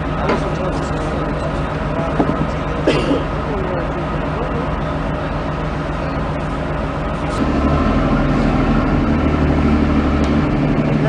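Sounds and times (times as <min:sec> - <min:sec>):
ship's machinery droning: 0:00.0 - 0:11.0.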